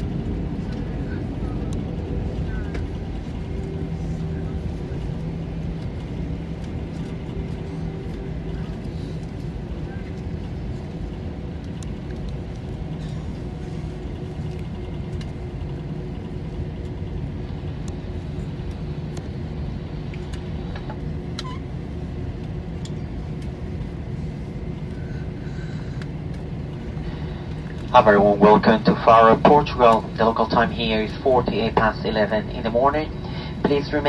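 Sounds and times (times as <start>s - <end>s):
airplane cabin rumble: 0.0s - 34.0s
jet engines humming: 0.0s - 34.0s.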